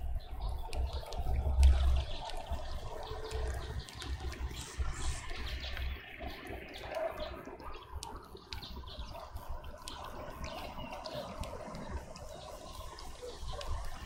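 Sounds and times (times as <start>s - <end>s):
sharp ticks: 0.1s - 14.0s.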